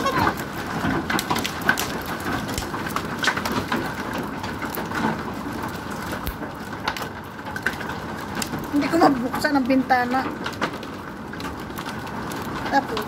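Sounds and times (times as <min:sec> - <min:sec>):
hailstones ticking: 0:00.0 - 0:13.0
rain hissing: 0:00.0 - 0:13.0.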